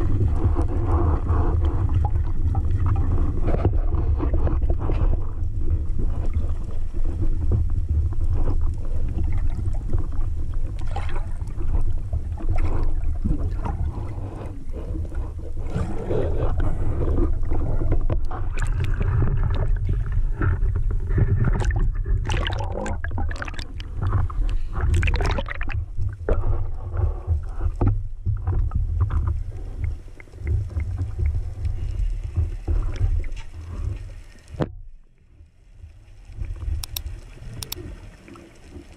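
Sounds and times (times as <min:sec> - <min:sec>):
bubbling and splashing: 0:00.0 - 0:34.6, 0:36.3 - 0:38.9
underwater water rushing: 0:00.0 - 0:34.7, 0:35.8 - 0:38.9.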